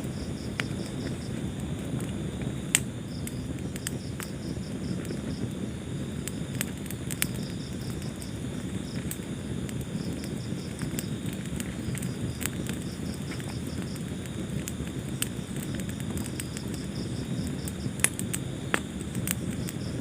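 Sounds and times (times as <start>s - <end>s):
fire flames rushing: 0.0s - 20.0s
wood fire crackles and pops: 0.0s - 20.0s.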